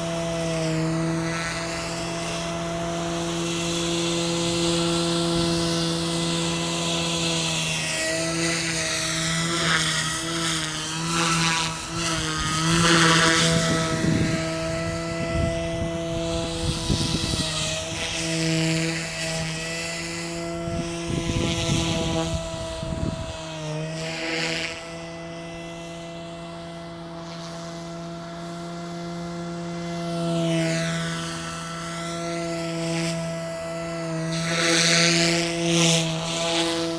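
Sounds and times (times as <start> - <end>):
helicopter passing whoosh: 0.0 - 36.9
rc helicopter motor whine: 0.0 - 36.9.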